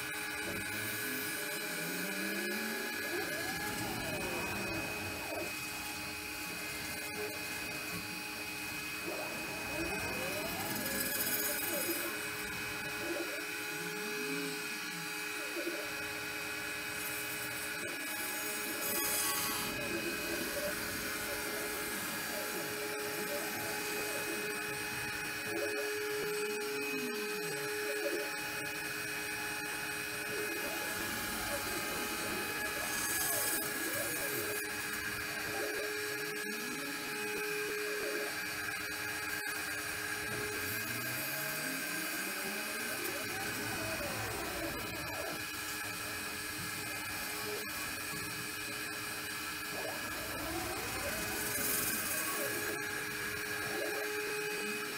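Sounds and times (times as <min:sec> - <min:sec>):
machine hum with high tones: 0:00.0 - 0:54.9
stepper motors whining: 0:00.0 - 0:54.9.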